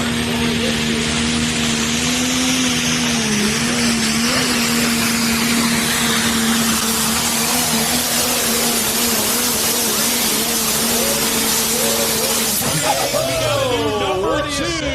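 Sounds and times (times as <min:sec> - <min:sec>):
diesel engine running hard: 0:00.0 - 0:14.9
high turbo whine: 0:00.0 - 0:14.9.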